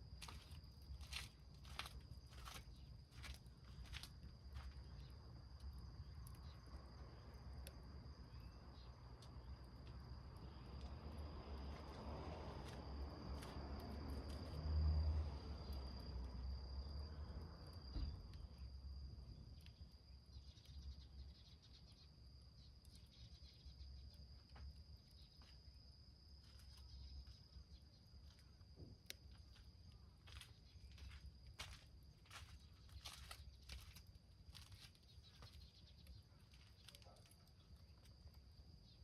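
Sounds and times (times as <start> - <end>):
small wood fire crackling: 0.0 - 39.0.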